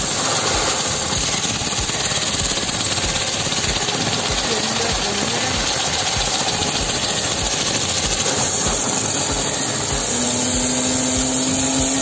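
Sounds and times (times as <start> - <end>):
low pulsing: 0.0 - 12.0
pressure washer jet hissing: 0.0 - 12.0
steady hum: 0.0 - 12.0.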